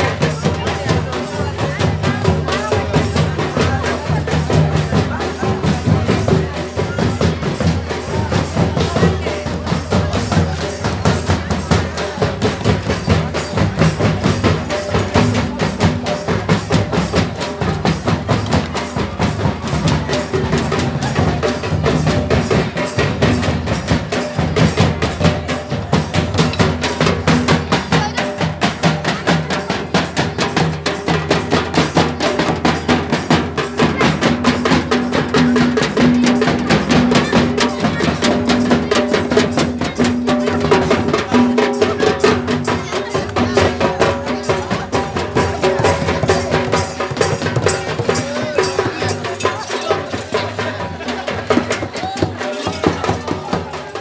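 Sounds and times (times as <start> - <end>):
fast dense folk drumming: 0.0 - 54.0.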